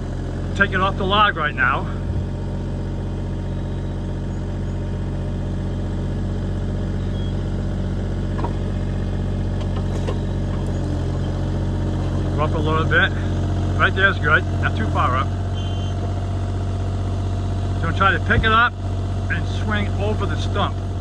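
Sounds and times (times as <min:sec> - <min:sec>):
mini excavator diesel engine running: 0:00.0 - 0:21.0.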